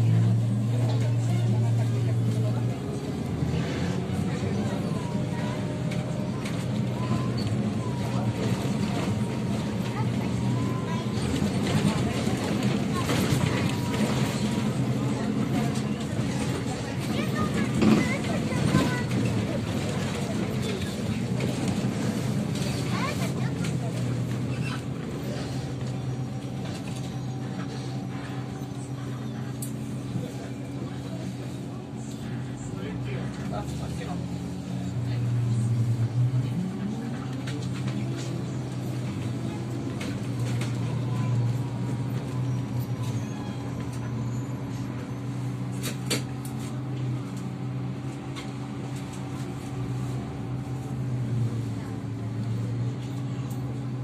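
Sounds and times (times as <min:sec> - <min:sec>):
road and cabin noise: 0:00.0 - 0:54.0.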